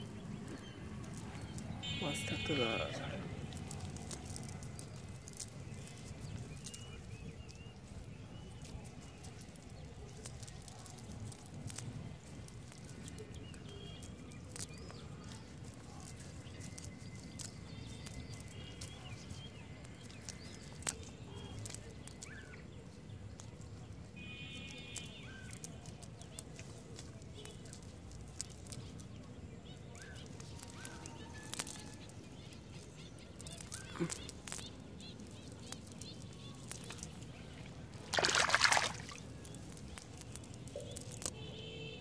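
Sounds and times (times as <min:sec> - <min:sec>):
wet net clicks and rustles: 0:00.0 - 0:41.6.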